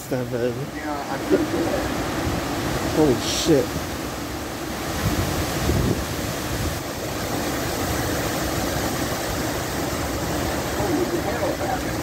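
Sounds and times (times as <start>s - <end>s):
hurricane wind thrashing trees: 0.0s - 12.0s
rain: 0.0s - 12.0s.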